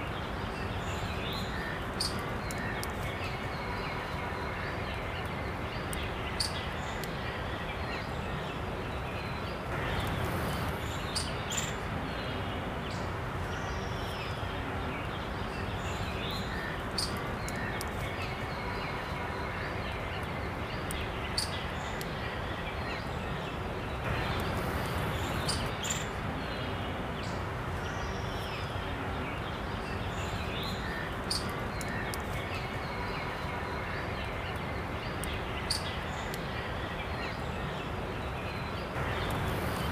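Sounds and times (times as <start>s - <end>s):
birds chirping: 0.0s - 39.9s
steady background hiss: 0.0s - 39.9s.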